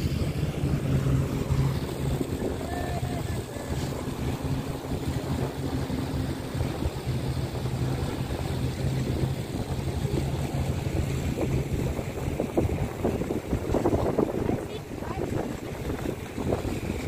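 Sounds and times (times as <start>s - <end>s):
jet ski engine humming: 0.0s - 17.0s
small waves washing in: 0.0s - 17.0s
wind noise on microphone: 0.0s - 17.0s.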